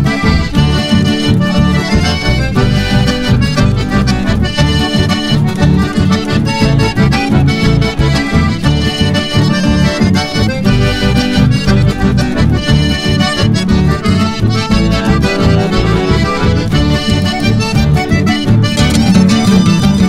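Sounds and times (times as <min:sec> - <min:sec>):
button accordion melody: 0:00.0 - 0:20.0
pulsing bass beat: 0:00.0 - 0:20.0.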